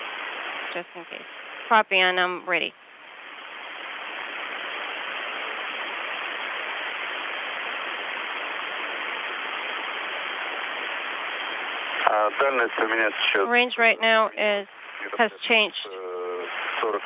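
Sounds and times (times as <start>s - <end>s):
radio channel hiss: 0.0s - 17.0s.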